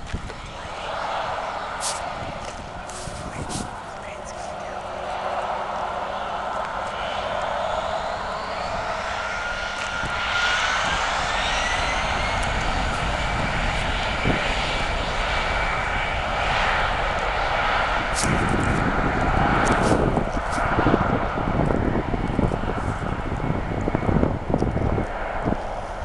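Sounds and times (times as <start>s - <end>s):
jet engines spooling up: 0.0s - 26.0s
wind buffeting microphone: 0.0s - 26.0s.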